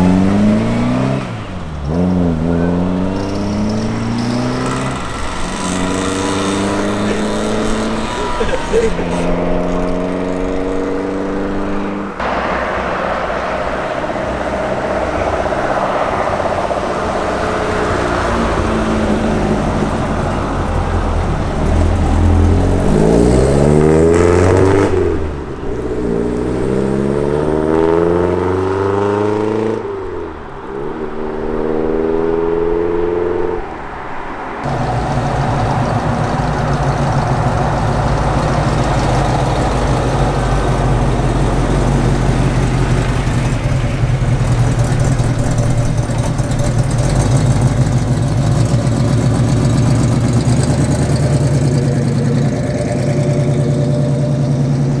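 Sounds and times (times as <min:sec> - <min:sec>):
car engine revving through gears: 0:00.0 - 0:30.1, 0:30.9 - 0:33.6, 0:34.6 - 0:55.0
vee eight engine rumbling: 0:00.0 - 0:55.0.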